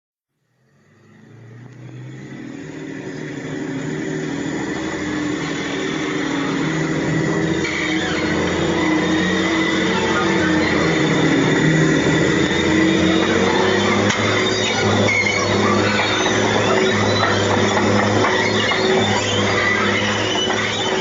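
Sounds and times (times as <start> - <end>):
heavy vehicle engine running: 0.4 - 21.0.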